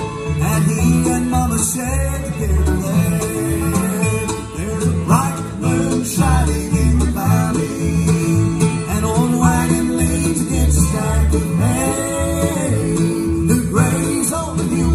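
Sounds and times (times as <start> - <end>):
acoustic guitar: 0.0 - 14.9
banjo: 0.0 - 14.9
fiddle: 0.0 - 14.9
mandolin: 0.0 - 14.9
upright bass: 0.0 - 14.9.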